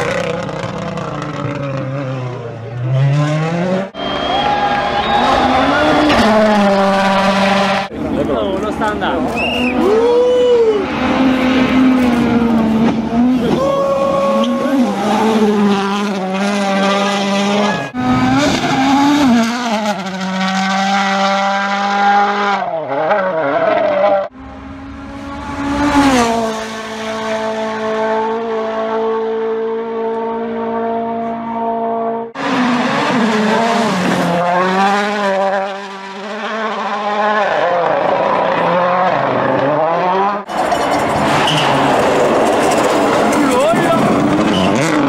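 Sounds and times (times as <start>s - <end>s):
rally car engine at full throttle: 0.0s - 45.0s.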